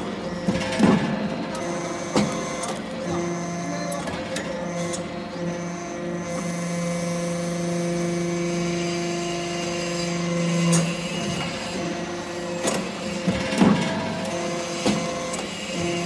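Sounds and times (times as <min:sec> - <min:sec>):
hydraulic press humming: 0:00.0 - 0:16.0.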